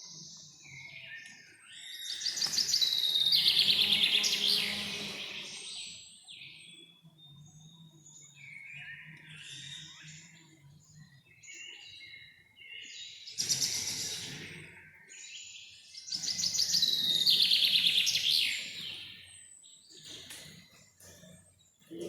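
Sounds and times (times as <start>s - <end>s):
rapid trilled birdsong: 0.0s - 22.0s
songbirds chirping: 0.0s - 22.0s.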